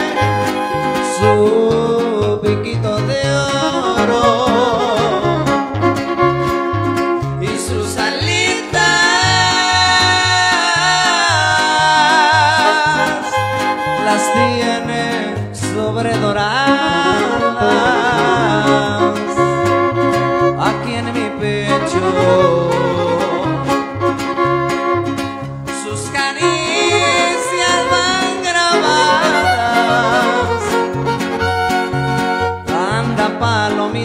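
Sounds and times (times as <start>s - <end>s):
violin melody with vibrato: 0.0s - 2.0s, 3.2s - 15.6s, 16.5s - 33.3s
strummed guitars: 0.0s - 34.0s.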